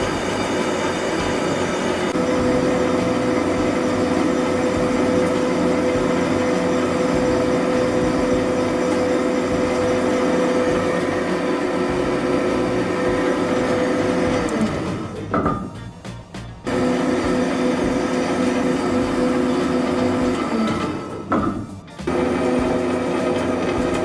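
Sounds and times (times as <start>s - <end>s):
drive hum: 0.0s - 24.0s
roll mill mechanical drone: 0.0s - 24.0s.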